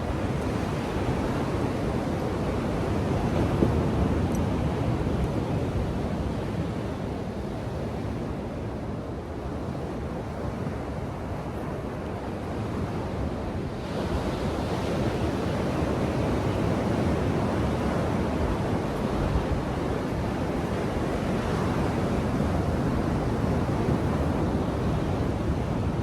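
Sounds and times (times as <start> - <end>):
ocean surf washing onto beach: 0.0 - 26.0.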